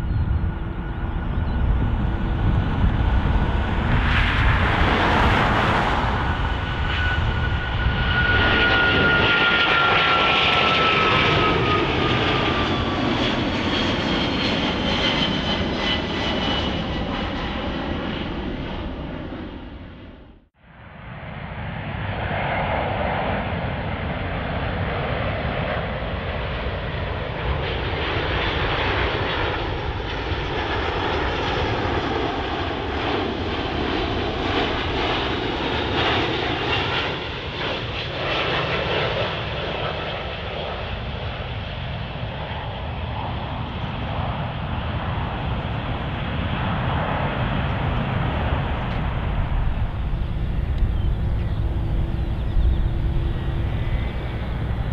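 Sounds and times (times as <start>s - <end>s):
jet engines of aircraft overhead: 0.0s - 54.9s.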